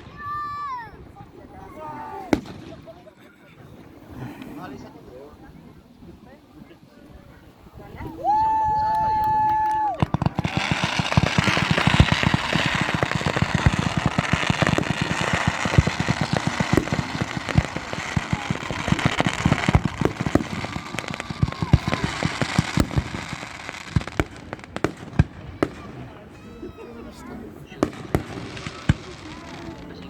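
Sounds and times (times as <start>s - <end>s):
fireworks bangs and crackling: 0.0s - 3.2s, 7.7s - 30.0s.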